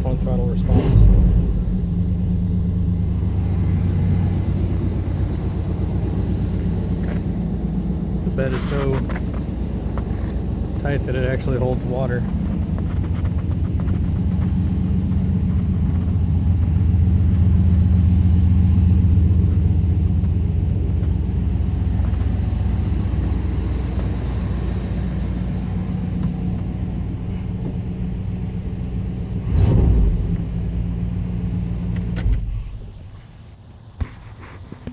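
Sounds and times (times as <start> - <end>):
pickup engine idling: 0.0 - 34.9.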